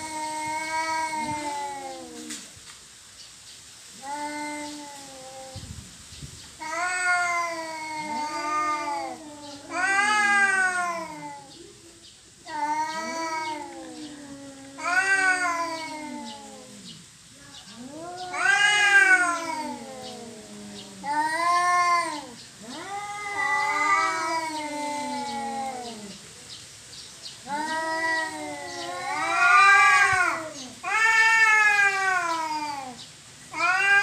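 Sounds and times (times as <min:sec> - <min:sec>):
cats yowling: 0:00.0 - 0:02.4, 0:04.0 - 0:05.6, 0:06.6 - 0:11.5, 0:12.4 - 0:17.0, 0:17.7 - 0:26.2, 0:27.4 - 0:34.0.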